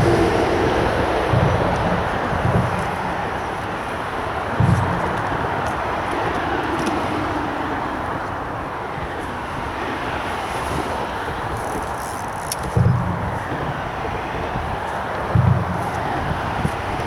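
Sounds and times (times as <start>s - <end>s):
road traffic roar: 0.0s - 17.0s.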